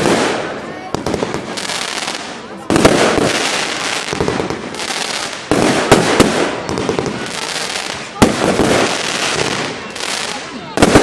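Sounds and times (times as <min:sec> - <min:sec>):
sharp firecracker bangs: 0:00.0 - 0:01.6, 0:02.2 - 0:11.0
fireworks crackling: 0:00.0 - 0:11.0.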